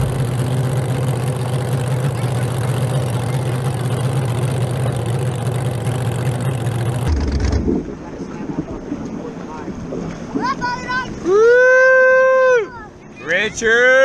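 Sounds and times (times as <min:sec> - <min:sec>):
boat engine idling: 0:00.0 - 0:11.2.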